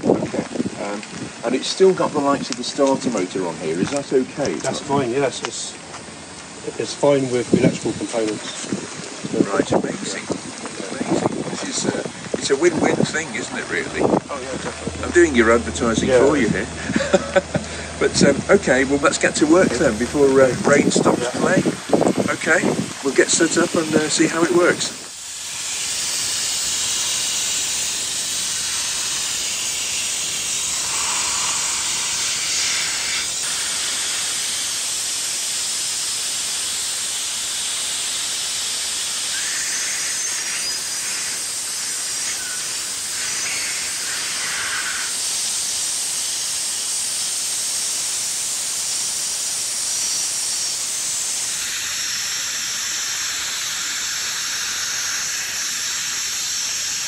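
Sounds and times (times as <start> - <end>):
dry ice blaster hissing: 0.0 - 57.0
thin high whine: 6.6 - 57.0.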